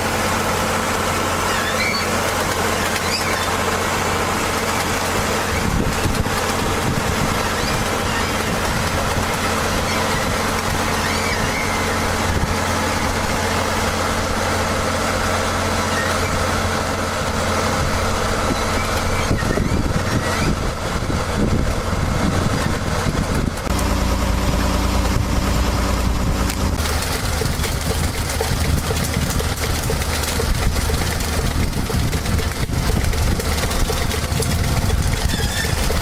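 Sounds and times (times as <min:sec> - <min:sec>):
heavy vehicle engine running: 0:00.0 - 0:36.0.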